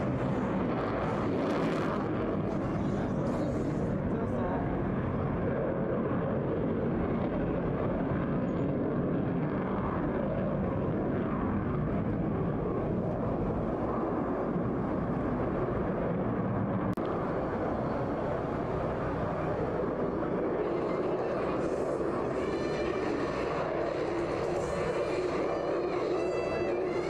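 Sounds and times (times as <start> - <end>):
distant jet engine roar: 0.0 - 27.0.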